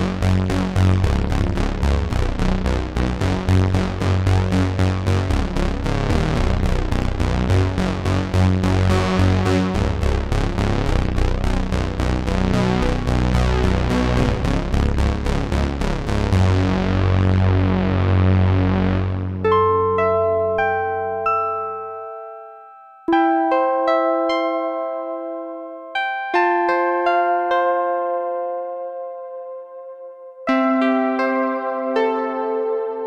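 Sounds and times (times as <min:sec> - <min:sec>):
synthesizer bass line: 0:00.0 - 0:33.0.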